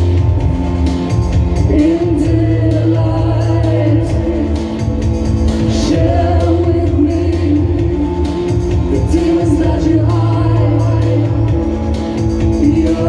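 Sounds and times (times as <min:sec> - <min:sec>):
steady beat: 0:00.0 - 0:13.0
person singing: 0:01.5 - 0:13.0.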